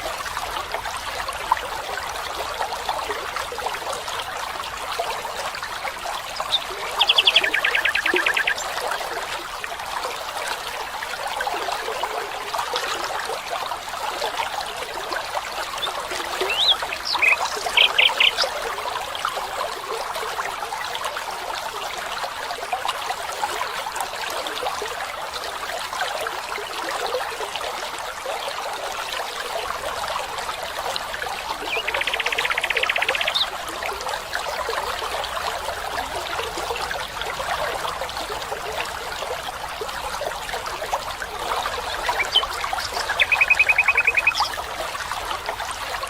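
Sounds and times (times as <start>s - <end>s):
stream babbling: 0.0s - 46.0s.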